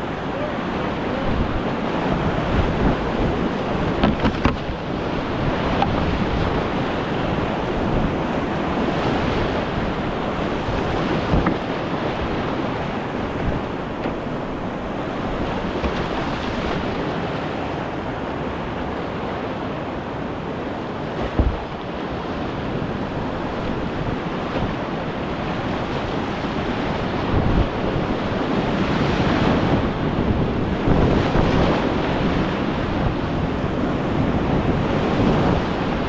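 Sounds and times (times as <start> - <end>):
whitewater rushing: 0.0 - 33.0.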